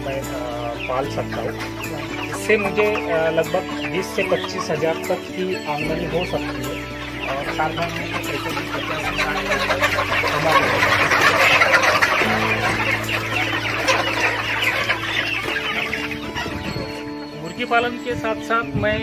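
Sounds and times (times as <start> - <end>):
flock of chickens clucking: 0.0 - 19.0.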